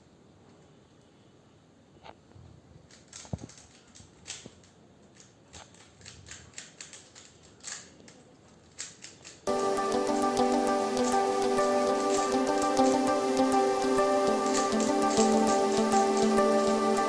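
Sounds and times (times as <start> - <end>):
puzzle cube plastic clicks: 2.9 - 17.0.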